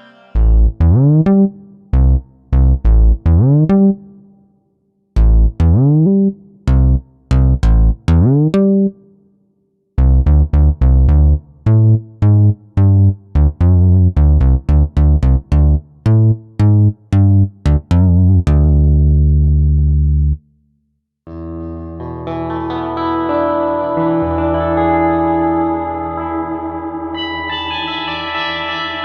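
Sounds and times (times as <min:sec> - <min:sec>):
plucked synthesizer notes: 0:00.0 - 0:04.4, 0:05.2 - 0:09.1, 0:10.0 - 0:20.4, 0:21.3 - 0:29.0.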